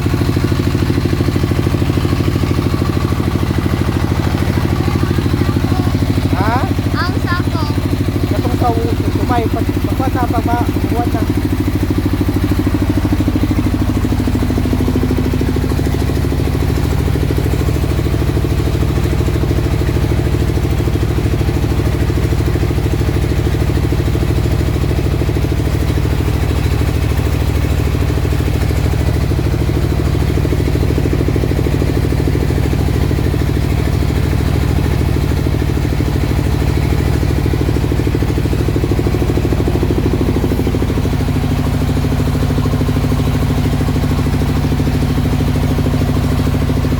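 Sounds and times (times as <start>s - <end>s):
single-cylinder engine running: 0.0s - 46.9s.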